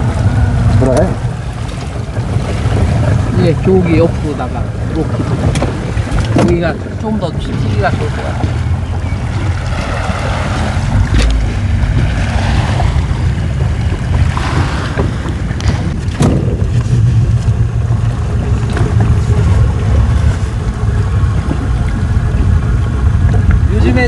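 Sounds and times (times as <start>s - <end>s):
boat motor running: 0.0s - 24.0s
wind buffeting microphone: 0.0s - 24.0s.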